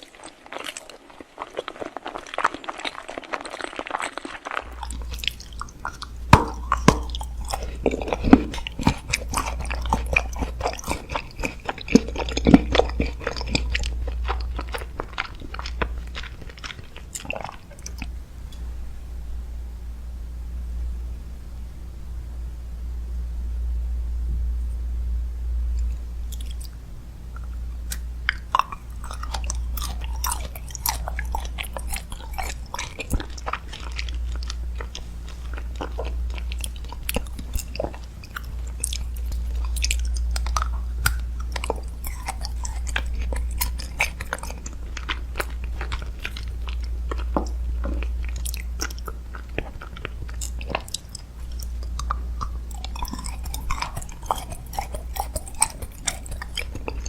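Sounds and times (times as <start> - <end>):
chewing crunchy food: 0.0 - 18.7, 25.8 - 57.0
steady low hum: 4.6 - 57.0.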